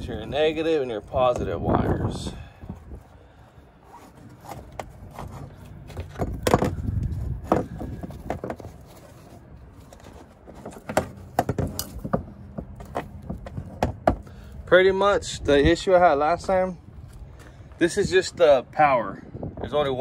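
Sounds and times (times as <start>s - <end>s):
wiring and insulation rustling: 0.0s - 18.1s.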